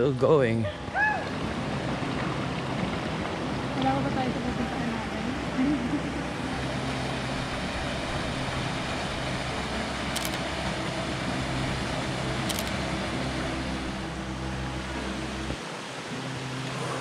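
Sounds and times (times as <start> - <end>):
rushing water of waterfall: 0.0 - 17.0.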